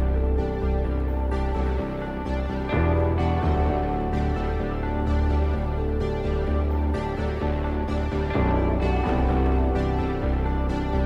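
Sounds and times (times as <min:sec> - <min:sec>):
low bass line: 0:00.0 - 0:11.0
sustained synth notes: 0:00.0 - 0:11.0.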